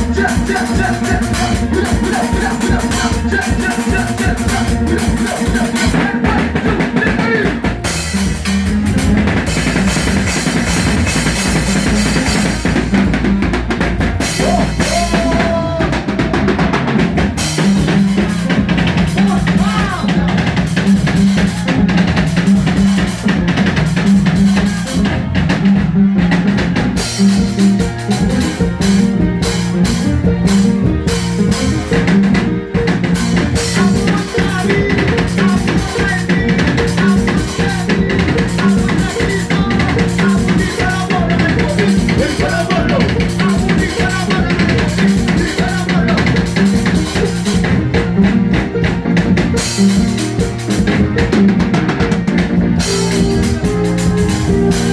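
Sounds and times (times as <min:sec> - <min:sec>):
drum kit beating: 0:00.0 - 0:54.9
melodic instruments: 0:00.0 - 0:54.9
repeating bass line: 0:00.0 - 0:54.9.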